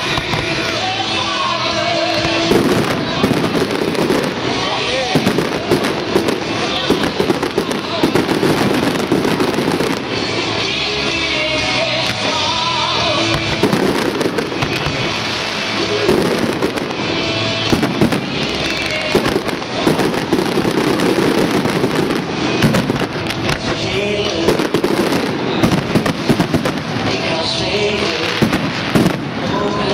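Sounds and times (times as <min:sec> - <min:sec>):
fireworks bursting and crackling: 0:00.0 - 0:29.9
music playing: 0:00.0 - 0:29.9.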